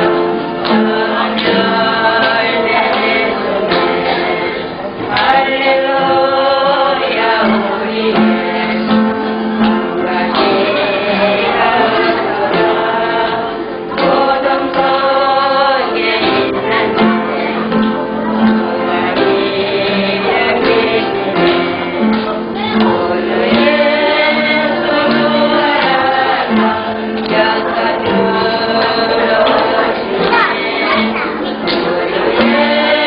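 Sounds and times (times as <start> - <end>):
group singing a hymn: 0.0 - 33.0
musical accompaniment: 0.0 - 33.0.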